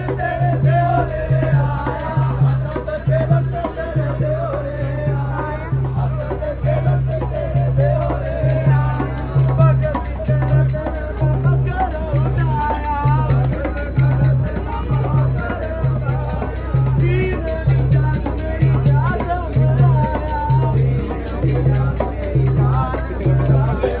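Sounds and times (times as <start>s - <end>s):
crowd chatter: 0.0s - 24.0s
drum beating: 0.0s - 24.0s.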